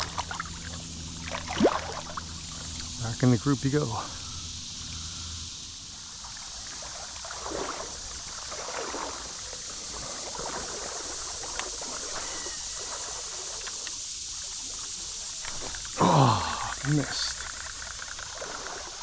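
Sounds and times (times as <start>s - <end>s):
soft water splashes: 0.0s - 3.1s, 5.8s - 19.0s
creek water running: 0.0s - 19.0s.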